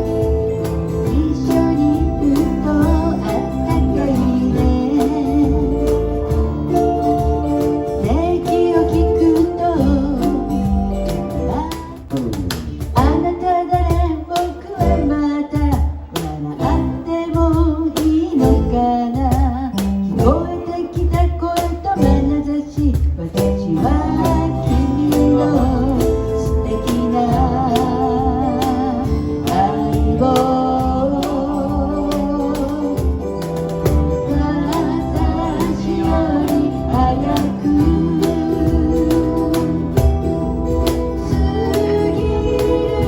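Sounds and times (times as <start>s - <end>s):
drums: 0.0s - 43.0s
guitar: 0.0s - 43.0s
person singing: 0.0s - 43.0s.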